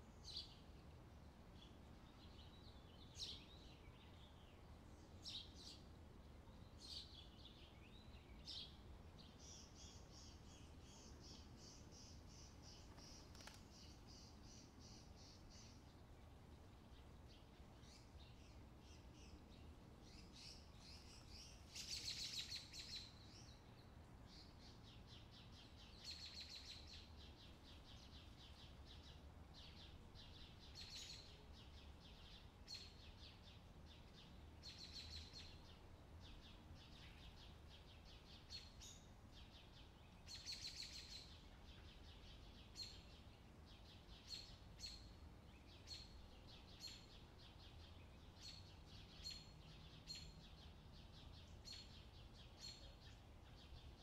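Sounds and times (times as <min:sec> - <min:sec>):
faint bird chirps and trills: 0:00.0 - 0:54.0.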